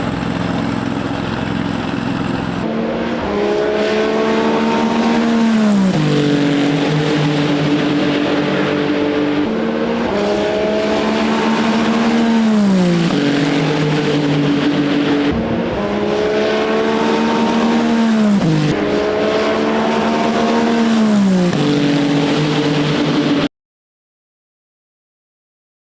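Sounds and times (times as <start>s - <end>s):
race car passing at speed: 0.0s - 23.5s.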